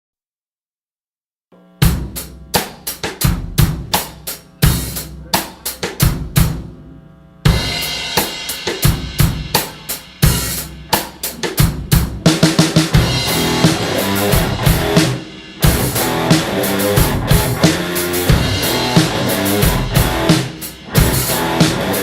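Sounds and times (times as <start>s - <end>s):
hard rhythmic drum hits: 1.8s - 6.8s, 7.4s - 22.0s.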